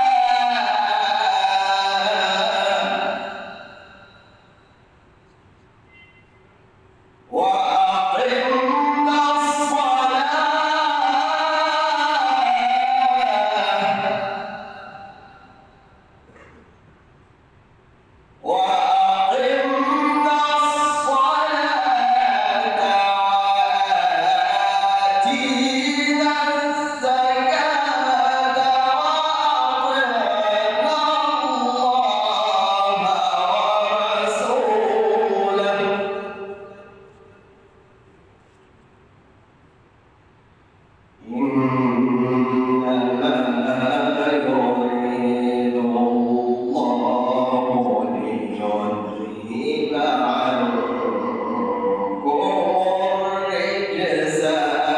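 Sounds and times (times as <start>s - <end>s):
man chanting melodically: 0.0s - 4.7s, 7.3s - 16.5s, 18.4s - 37.4s, 41.2s - 54.9s.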